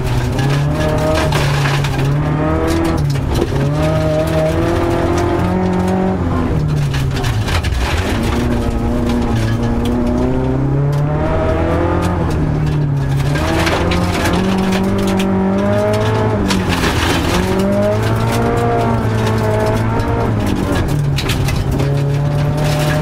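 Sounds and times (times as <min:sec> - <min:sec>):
gravel clattering under car: 0:00.0 - 0:23.0
rally car engine revving: 0:00.0 - 0:23.0.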